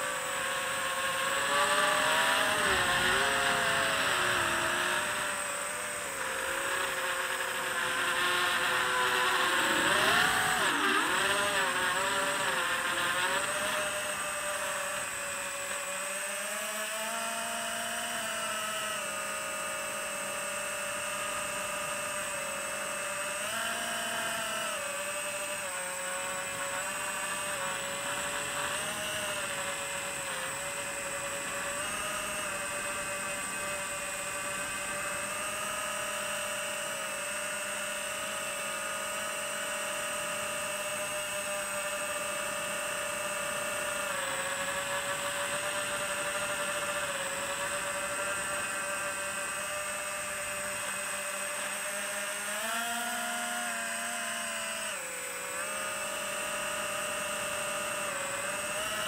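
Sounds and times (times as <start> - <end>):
drone motors and propellers whining: 0.0 - 59.0.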